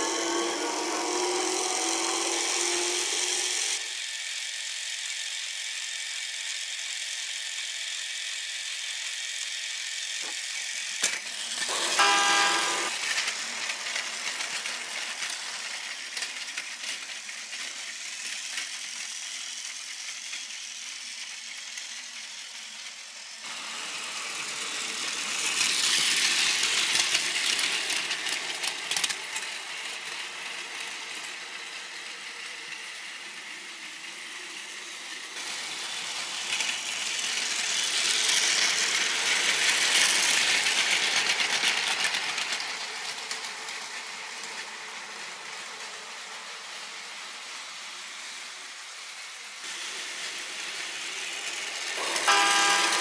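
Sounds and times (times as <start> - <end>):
toy train motor whir with clicking: 0.0 - 53.0.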